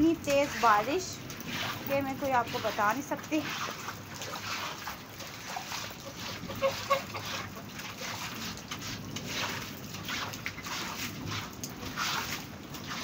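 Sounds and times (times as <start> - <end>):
heavy rain splashing into water: 0.0 - 13.0.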